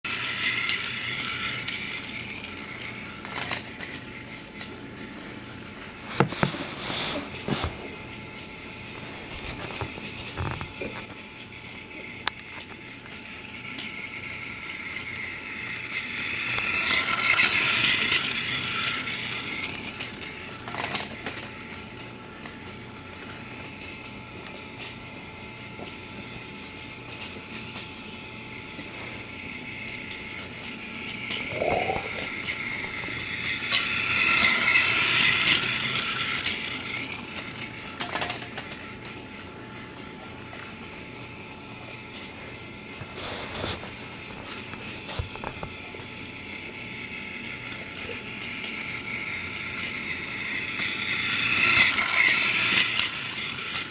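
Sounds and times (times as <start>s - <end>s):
toy train motor whirring: 0.0s - 53.9s.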